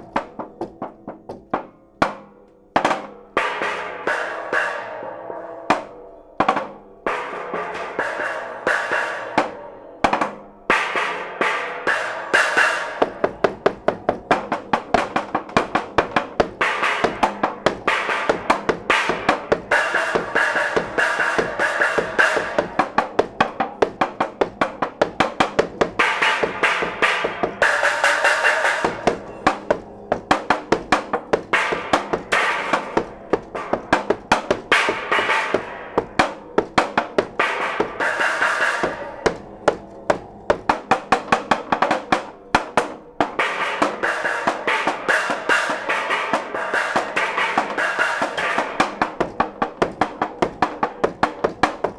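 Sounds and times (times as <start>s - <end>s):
mallets striking curved boards: 0.0s - 51.9s.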